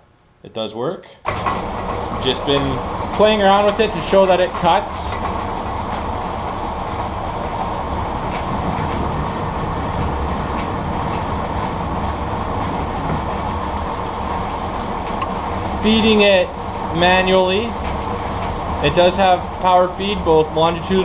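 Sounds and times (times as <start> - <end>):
mechanical rumble and rattle: 1.2 - 21.0
metal lathe running: 1.3 - 21.0.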